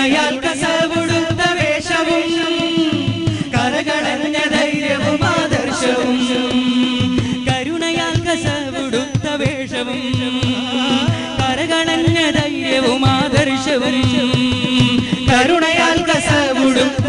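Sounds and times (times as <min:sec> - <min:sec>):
person singing: 0:00.0 - 0:17.0
drum beat: 0:00.1 - 0:17.0.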